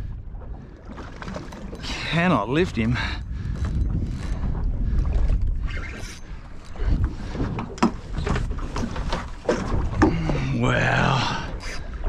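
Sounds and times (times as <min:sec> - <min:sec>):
water slapping hull: 0:00.0 - 0:12.0
wind rumbling on microphone: 0:00.0 - 0:12.0.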